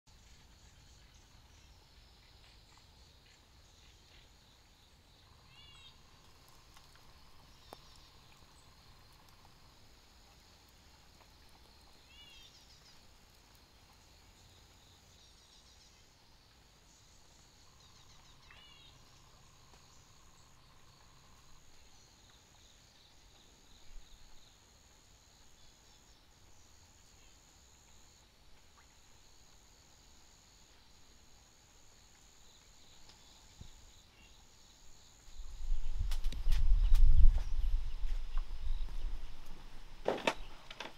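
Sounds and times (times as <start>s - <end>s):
insects droning: 0.1s - 40.9s.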